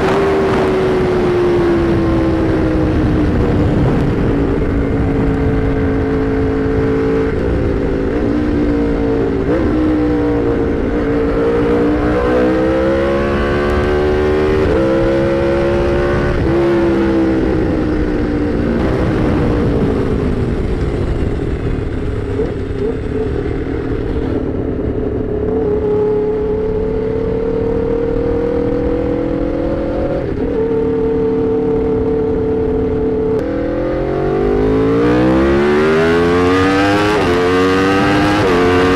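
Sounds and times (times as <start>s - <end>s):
motorcycle engine revving: 0.0s - 38.9s
wind rush: 0.0s - 38.9s.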